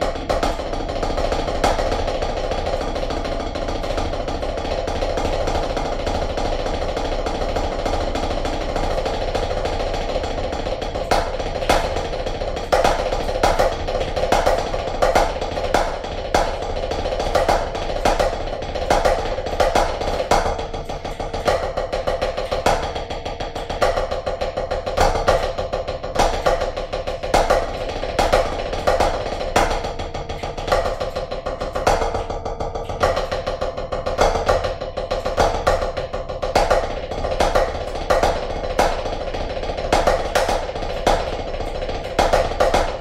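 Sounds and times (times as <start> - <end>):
drumsticks on practice pad: 0.0 - 43.0.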